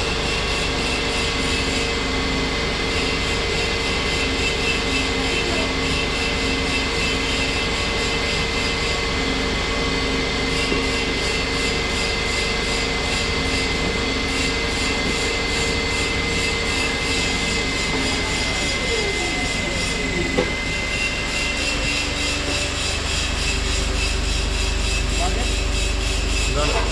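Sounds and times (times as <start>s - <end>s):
machine tool humming with high whine: 0.0s - 26.9s.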